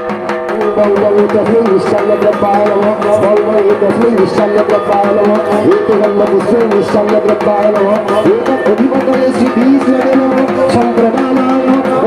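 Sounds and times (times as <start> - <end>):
music with fast drum beats: 0.0 - 12.0.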